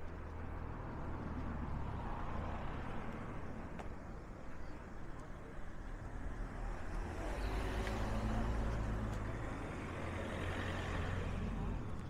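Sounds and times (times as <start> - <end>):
cars driving past: 0.2 - 3.9, 6.0 - 12.0.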